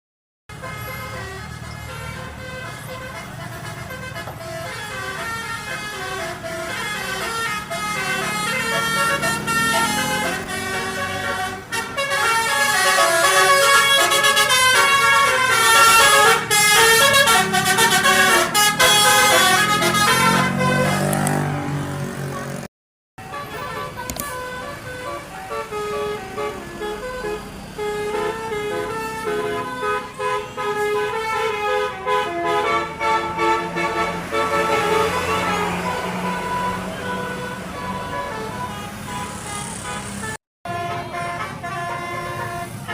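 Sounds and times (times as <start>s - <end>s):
bus engine running: 0.5s - 42.9s
musical bus horn playing a tune: 0.5s - 42.9s.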